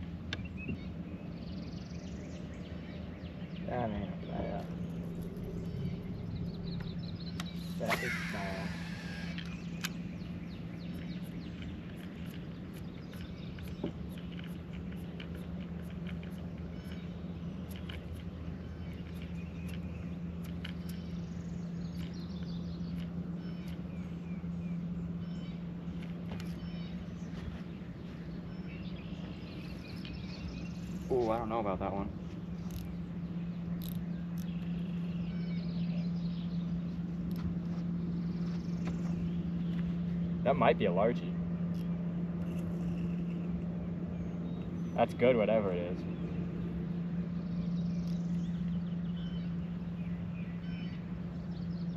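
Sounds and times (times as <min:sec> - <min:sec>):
birds chirping: 0:00.0 - 0:51.9
steady low hum: 0:00.0 - 0:51.9.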